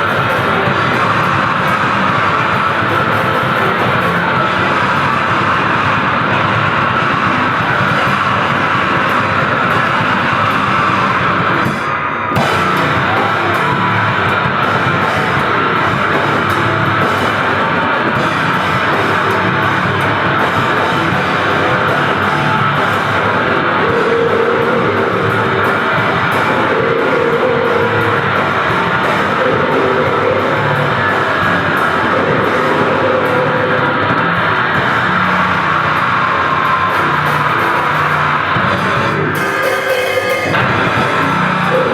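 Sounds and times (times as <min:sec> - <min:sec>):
loud metal band playing: 0:00.0 - 0:41.9.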